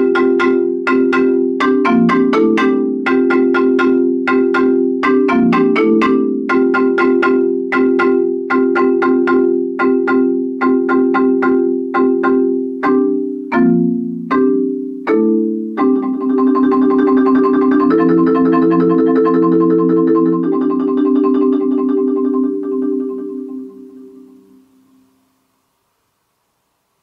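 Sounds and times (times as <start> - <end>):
marimba chords and rolls: 0.0 - 25.1.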